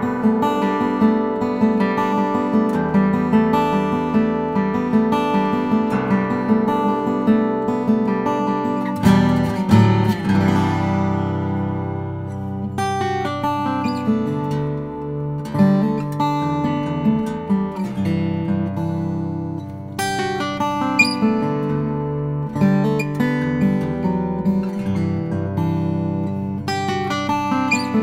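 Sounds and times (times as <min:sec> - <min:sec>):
fingerstyle acoustic guitar: 0:00.0 - 0:28.0.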